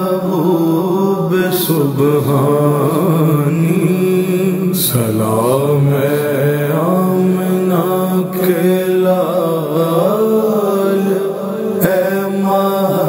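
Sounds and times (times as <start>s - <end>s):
man singing devotional verse: 0.0s - 13.0s.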